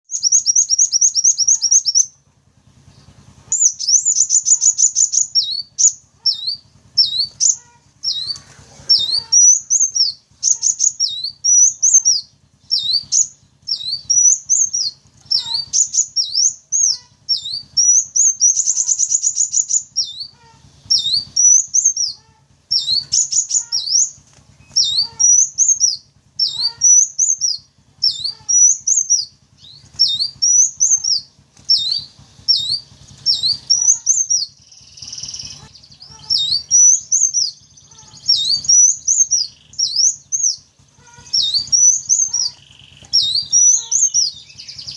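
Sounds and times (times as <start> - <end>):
bird song trills: 0.1 - 44.9.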